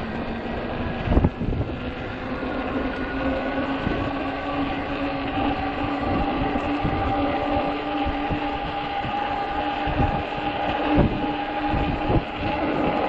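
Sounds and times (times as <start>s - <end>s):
e-bike motor whine: 0.0s - 13.0s
tires rumbling over snow: 0.0s - 13.0s.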